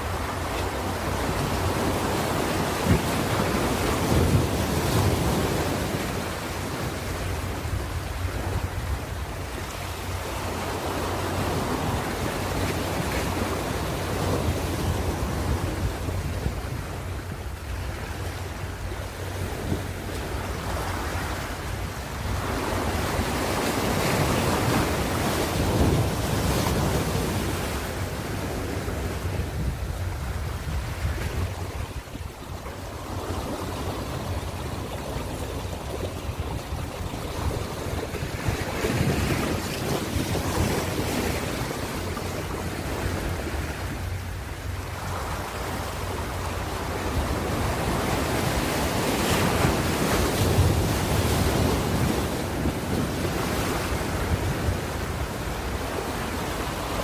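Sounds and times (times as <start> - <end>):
ocean waves washing ashore: 0.0 - 57.0
wind noise on microphone: 0.0 - 57.0.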